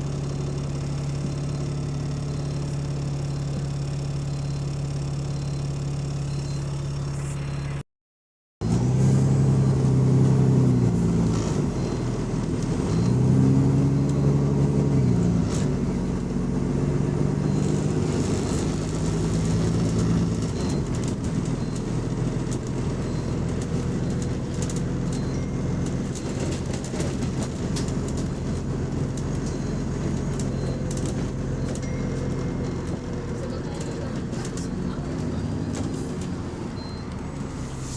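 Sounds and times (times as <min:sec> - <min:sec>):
diesel bus engine droning: 0:00.0 - 0:07.8, 0:08.6 - 0:37.9.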